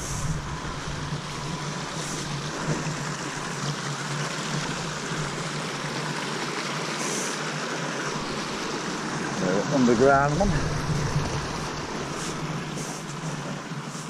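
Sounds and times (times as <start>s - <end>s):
stream splashing over rocks: 0.0s - 14.0s.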